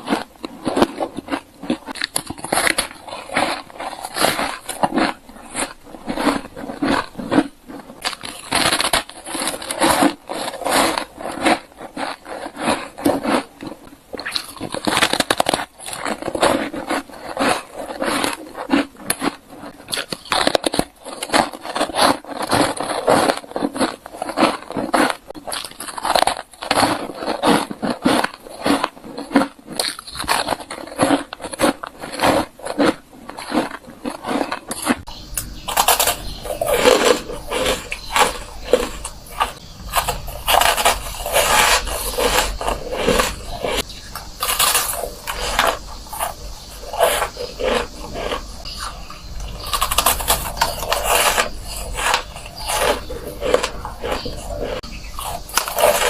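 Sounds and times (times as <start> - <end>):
ice crunching: 0.0 - 56.0.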